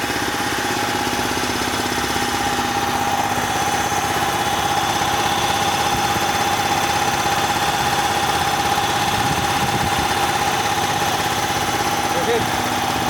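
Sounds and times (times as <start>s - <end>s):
high-pressure compressor running: 0.0s - 13.0s.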